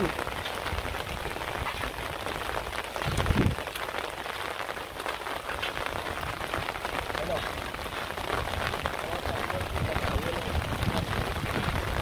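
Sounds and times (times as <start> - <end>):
raindrops ticking on surface: 0.0 - 12.0
steady rain: 0.0 - 12.0.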